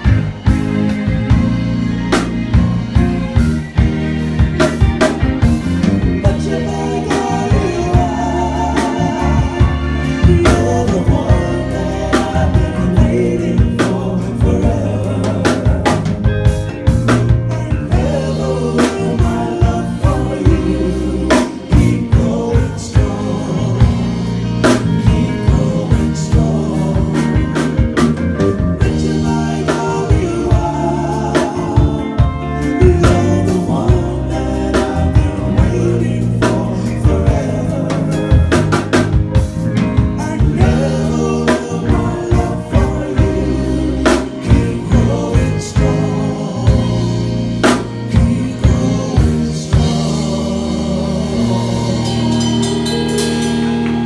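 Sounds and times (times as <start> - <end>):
guitar: 0.0 - 54.0
man singing: 5.9 - 52.8.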